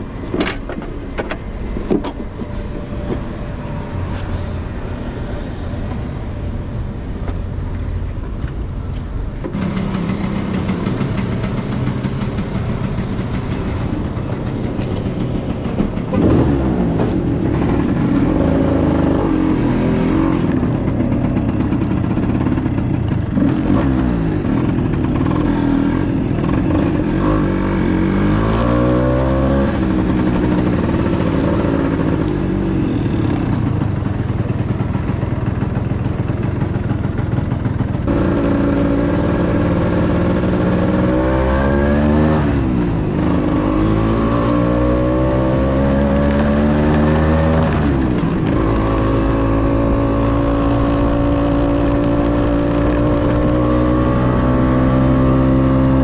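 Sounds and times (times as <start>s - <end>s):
scooter engine accelerating: 9.4s - 56.0s.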